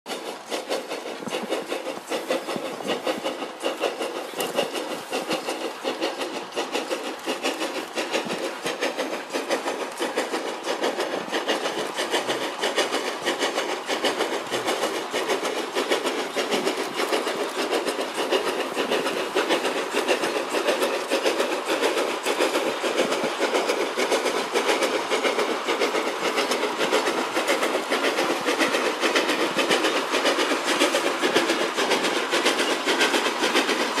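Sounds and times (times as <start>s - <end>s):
steam train passing: 0.1s - 34.0s
train wheels clattering: 0.1s - 34.0s.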